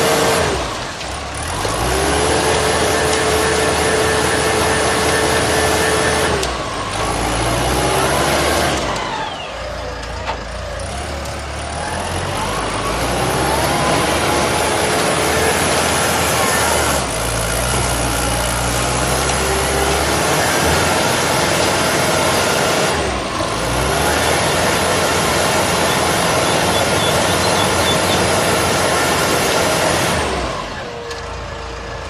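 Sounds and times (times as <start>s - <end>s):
diesel engine running loudly: 0.0s - 32.0s.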